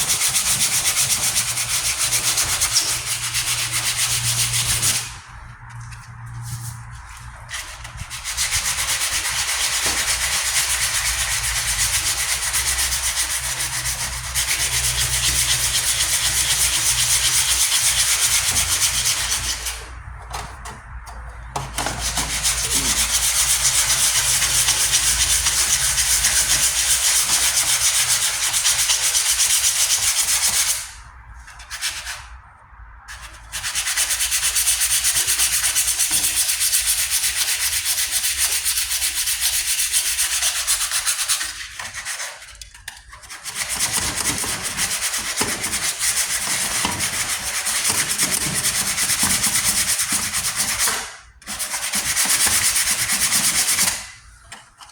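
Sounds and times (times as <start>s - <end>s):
sandpaper scrubbing on metal: 0.0s - 20.1s, 21.3s - 31.0s, 33.1s - 54.1s.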